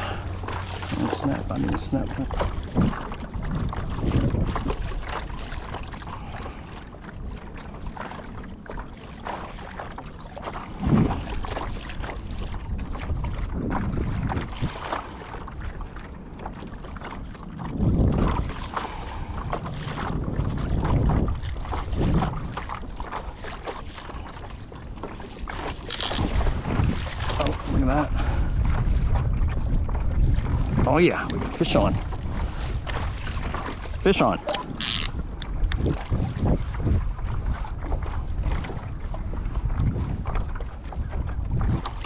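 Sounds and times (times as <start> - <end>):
water lapping against kayak hull: 0.0 - 42.0
wind buffeting microphone: 0.0 - 42.0.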